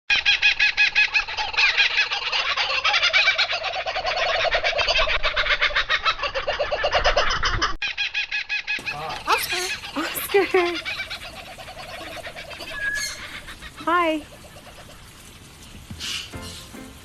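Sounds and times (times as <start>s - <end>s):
cockatoo harsh rattling calls: 0.1s - 15.2s, 16.0s - 17.0s.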